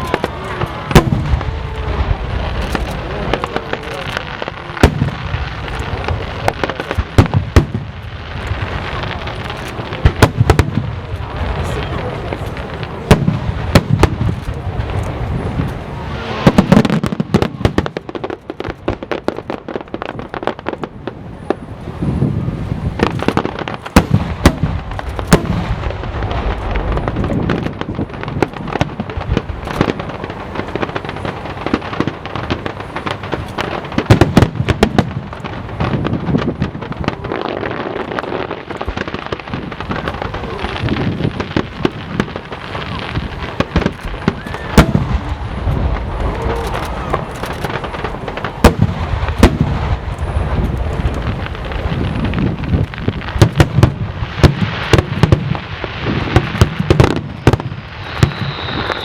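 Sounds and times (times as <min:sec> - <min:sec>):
fireworks booming volleys: 0:00.0 - 0:59.0
fireworks bursting and crackling: 0:00.0 - 0:59.0.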